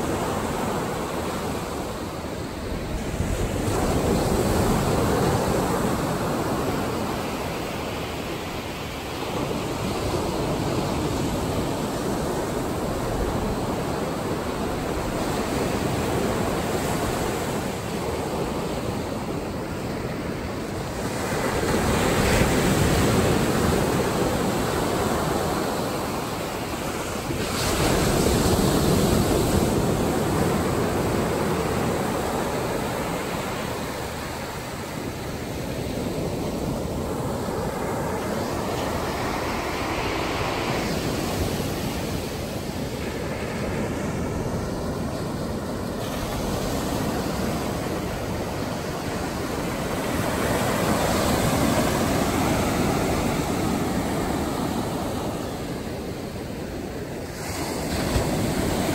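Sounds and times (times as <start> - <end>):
waves breaking on shore: 0.0 - 58.9.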